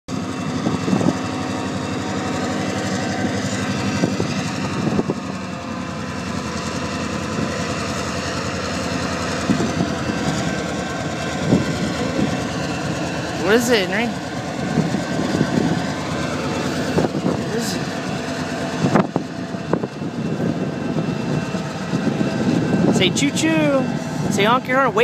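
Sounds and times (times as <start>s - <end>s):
diesel locomotive passing: 0.1s - 25.0s
train wheels rolling on rails: 0.1s - 25.0s.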